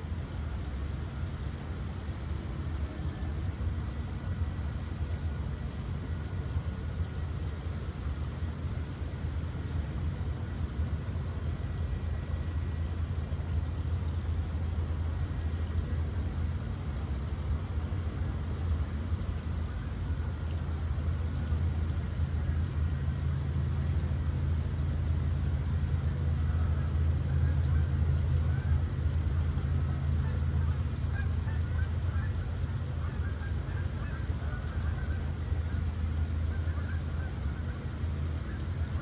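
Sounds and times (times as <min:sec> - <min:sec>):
low outdoor rumble: 0:00.0 - 0:39.0.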